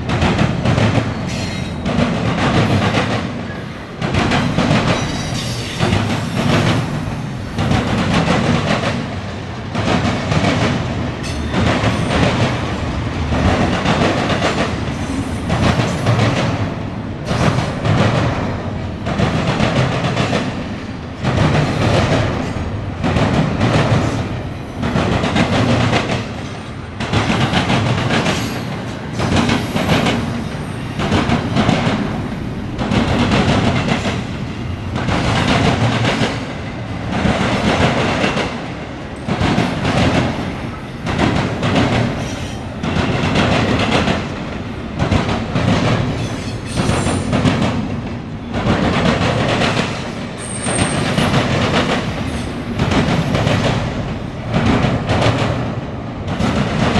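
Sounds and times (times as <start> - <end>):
train wheels clicking over rail joints: 0.0 - 56.9.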